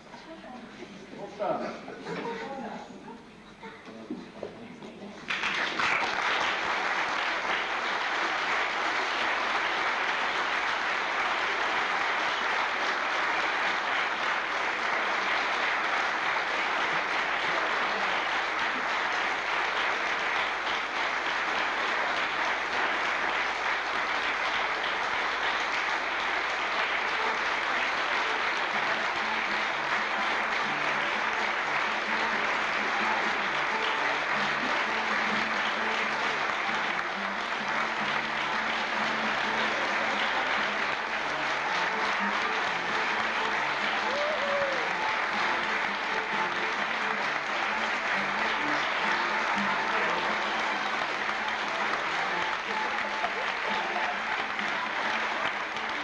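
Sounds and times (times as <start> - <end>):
audience applauding: 5.2 - 56.0.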